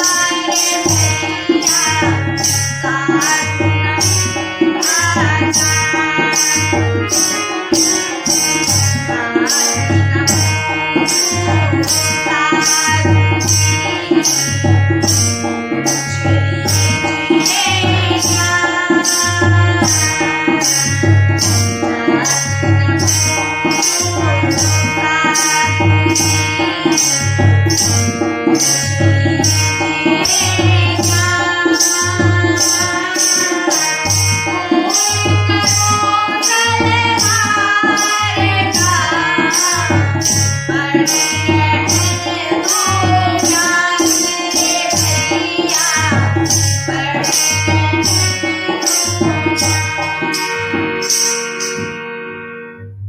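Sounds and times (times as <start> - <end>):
sustained melodic accompaniment: 0.0 - 53.0
tabla and drum rhythm: 0.0 - 53.0.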